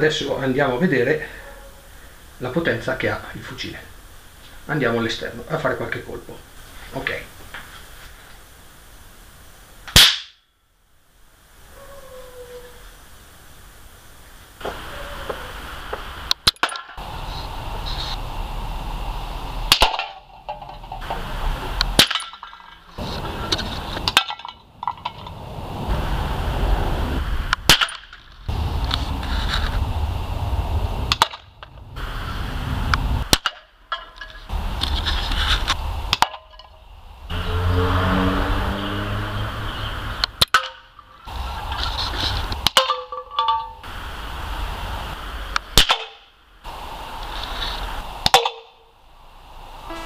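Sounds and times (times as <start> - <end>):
low rumble and hiss: 0.0 - 50.0.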